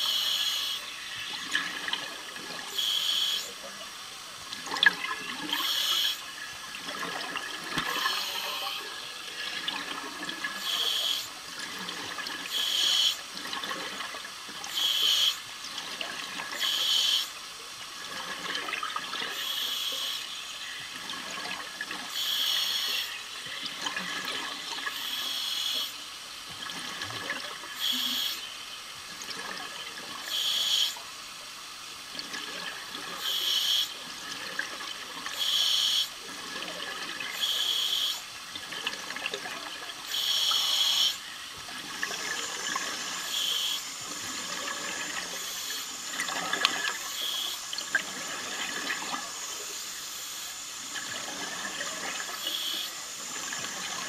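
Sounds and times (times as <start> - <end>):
exhaled air bubbling underwater: 0.0 - 31.0, 31.9 - 54.0
steady water hiss: 0.0 - 54.0.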